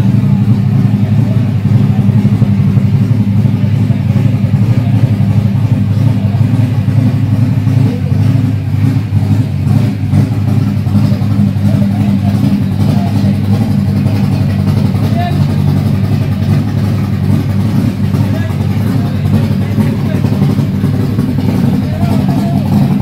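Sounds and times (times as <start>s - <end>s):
racing engine idling: 0.0s - 23.0s.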